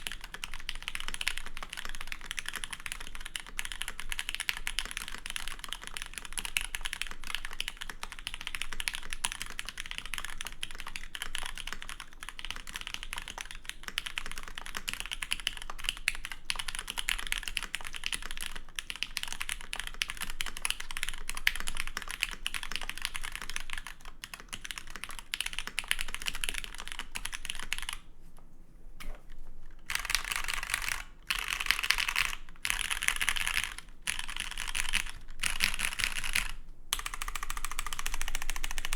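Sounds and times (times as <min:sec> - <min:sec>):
typing on mechanical keyboard: 0:00.0 - 0:28.1, 0:29.7 - 0:38.9.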